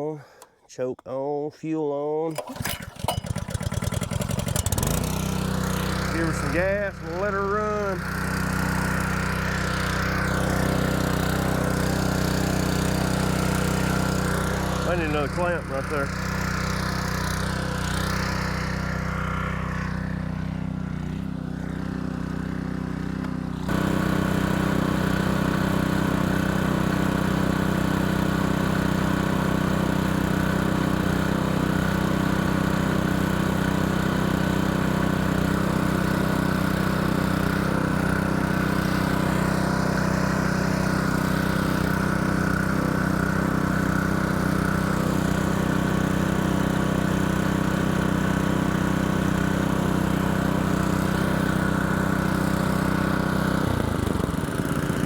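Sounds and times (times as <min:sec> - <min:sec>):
water pump engine running: 0:02.3 - 0:55.0.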